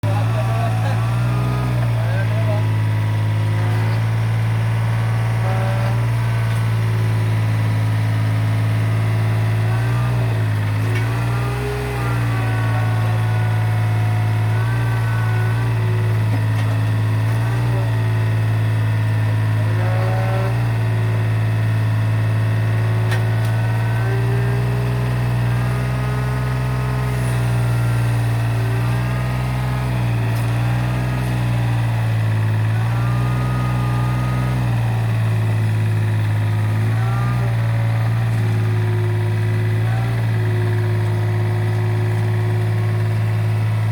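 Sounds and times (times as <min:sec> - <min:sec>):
diesel engine under load: 0:00.0 - 0:43.9
hydraulic whine: 0:00.1 - 0:43.9.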